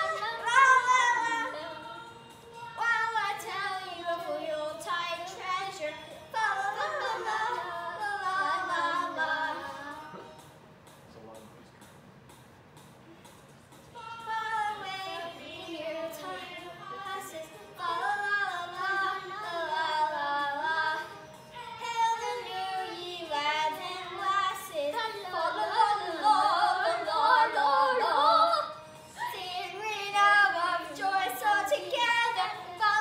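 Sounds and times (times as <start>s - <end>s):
young girls singing: 0.0s - 10.3s, 13.9s - 33.0s.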